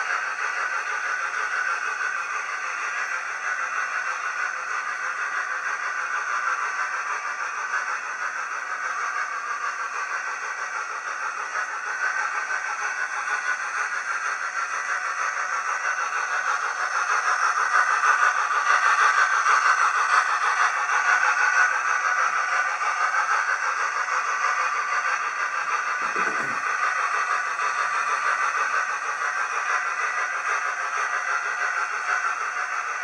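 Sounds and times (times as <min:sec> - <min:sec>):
model train motor whirring: 0:00.0 - 0:33.0.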